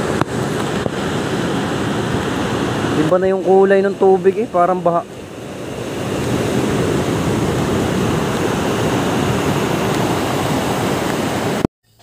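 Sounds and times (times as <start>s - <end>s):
surf washing over pebbles: 0.0s - 11.7s.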